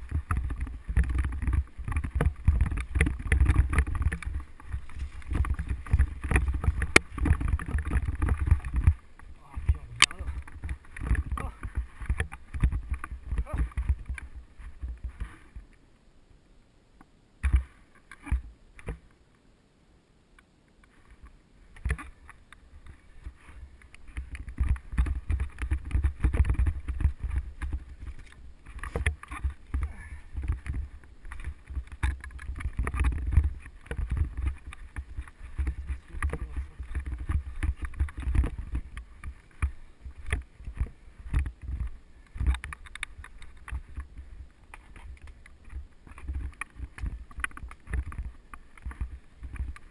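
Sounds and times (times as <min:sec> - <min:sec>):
bike knocking and rattling: 0:00.0 - 0:15.7, 0:21.8 - 0:49.9
wind rumble on microphone: 0:00.0 - 0:15.8, 0:21.0 - 0:49.9.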